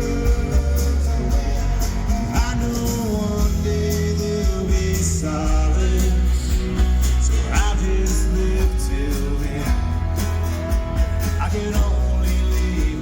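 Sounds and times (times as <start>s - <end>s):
deep bass line: 0.0s - 13.0s
strummed acoustic guitar: 0.0s - 13.0s.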